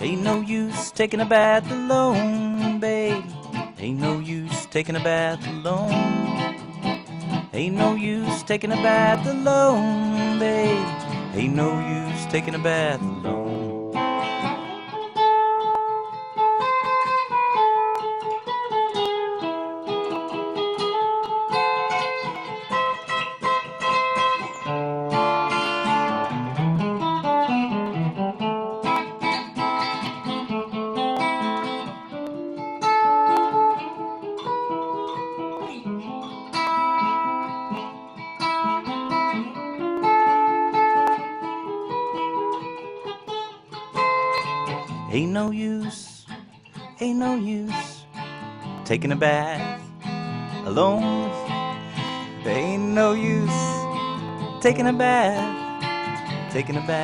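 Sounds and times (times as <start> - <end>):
plucked string instrument: 0.0 - 57.0.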